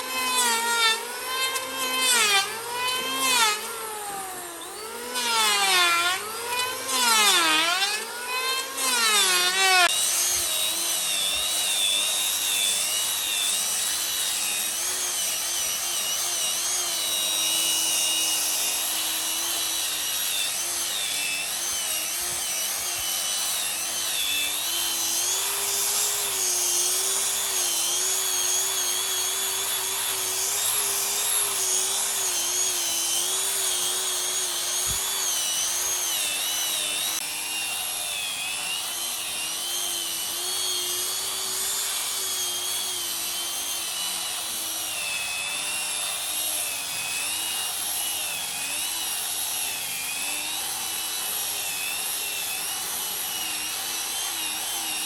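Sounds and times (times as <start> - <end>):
power tool motor whining: 0.0 - 55.0.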